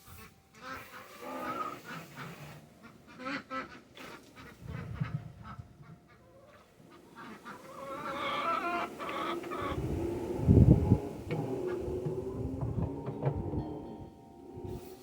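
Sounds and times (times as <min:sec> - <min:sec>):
birds calling: 0:00.0 - 0:14.7.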